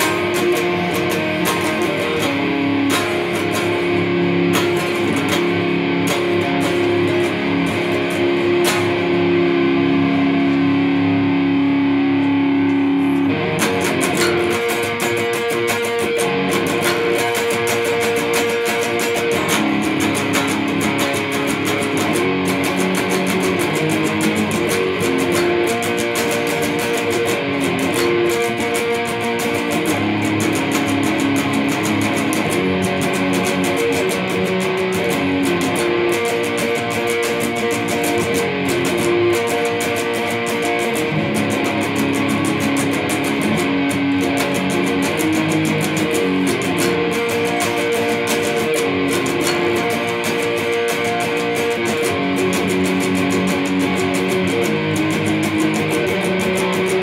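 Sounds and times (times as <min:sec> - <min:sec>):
electric guitar played with pick: 0:00.0 - 0:57.0.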